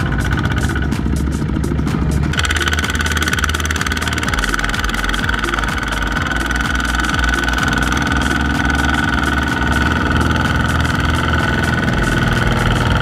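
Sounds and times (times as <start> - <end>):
diesel tractor engine running: 0.0 - 13.0
high whine: 0.0 - 13.0.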